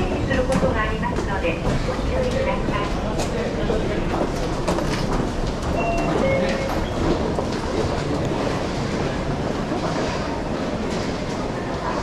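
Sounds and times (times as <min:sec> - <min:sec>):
low rumble of trains: 0:00.0 - 0:12.0.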